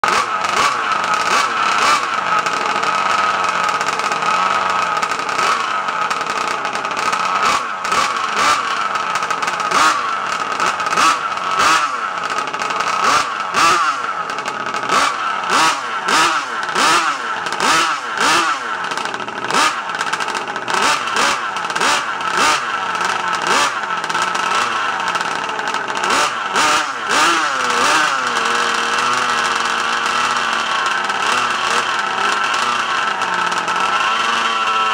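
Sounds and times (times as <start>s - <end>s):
two-stroke engine revving: 0.0s - 34.9s.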